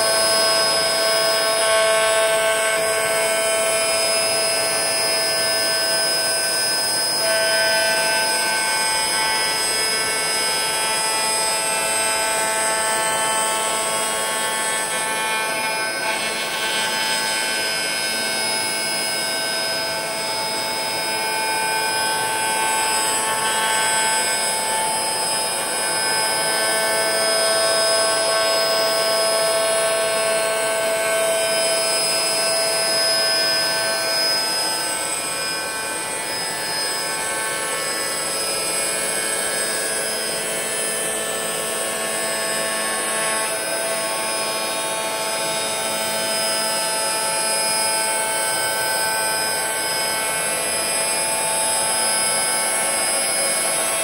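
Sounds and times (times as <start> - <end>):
milling spindle whine: 0.0 - 54.0.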